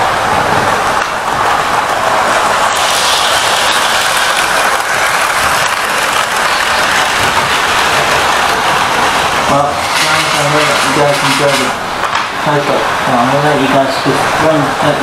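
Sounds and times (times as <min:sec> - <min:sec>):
model train running on rails: 0:00.0 - 0:15.0.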